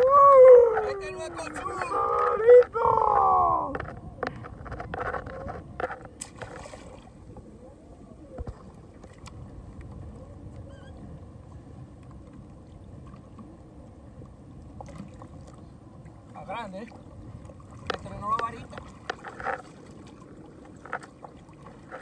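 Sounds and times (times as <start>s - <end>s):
water sloshing against kayak hull: 0.0s - 22.0s.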